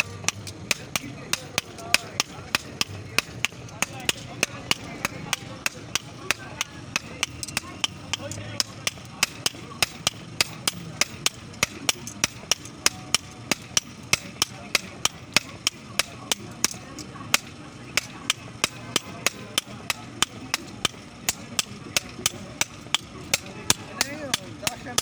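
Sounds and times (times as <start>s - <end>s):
hammer striking iron: 0.0s - 25.0s.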